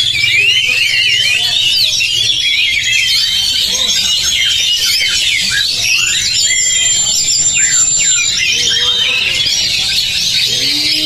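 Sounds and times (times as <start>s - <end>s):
chorus of songbirds: 0.0s - 11.0s.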